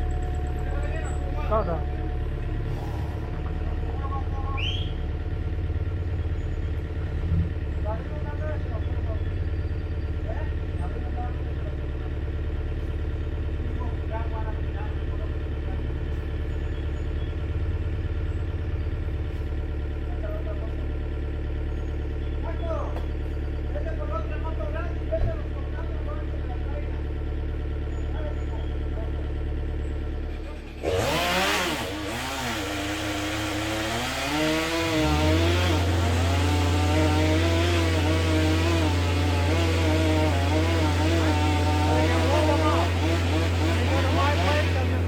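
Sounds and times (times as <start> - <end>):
chainsaw cutting: 0.0 - 9.1, 9.9 - 45.0
diesel engine running at low revs: 0.0 - 45.0.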